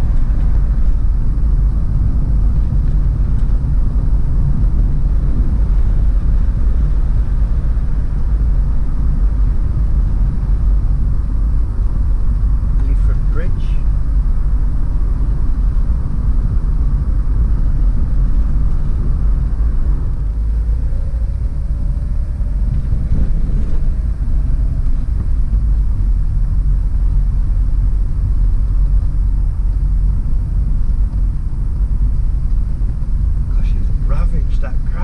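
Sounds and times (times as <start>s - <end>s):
vehicle engine and tyre rumble: 0.0s - 35.0s.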